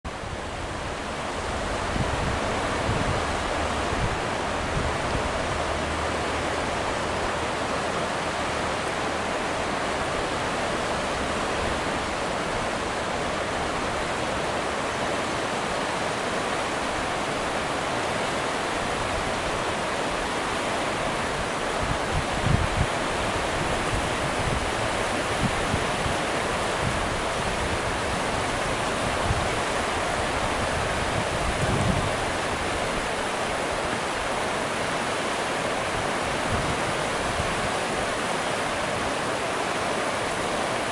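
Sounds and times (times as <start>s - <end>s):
river rapids rushing: 0.1s - 40.9s.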